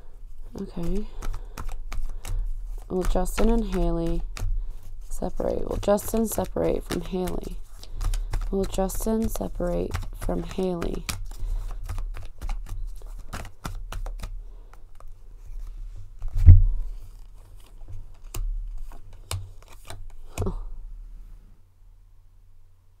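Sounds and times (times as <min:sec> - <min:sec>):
faint electrical hum: 0:00.0 - 0:23.0
cards shuffling: 0:00.3 - 0:20.7.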